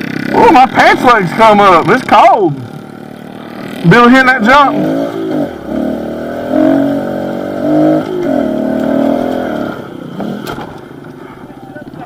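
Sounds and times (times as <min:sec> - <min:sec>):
small motorcycle engine revving: 0:00.0 - 0:11.0.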